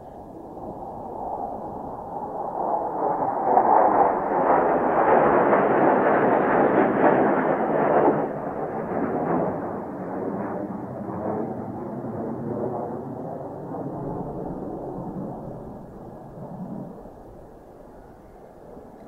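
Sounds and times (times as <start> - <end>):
jet engine crackling roar: 0.1 - 19.0.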